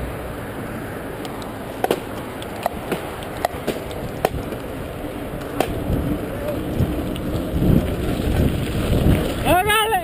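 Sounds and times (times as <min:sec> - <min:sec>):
bike tyre and wind rush: 0:00.0 - 0:10.0
bike clicking and rattling over bumps: 0:01.2 - 0:10.0.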